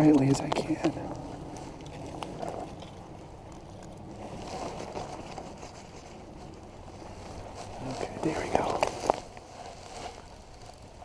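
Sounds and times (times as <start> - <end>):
dry reeds rustling against jacket: 0.0 - 11.0.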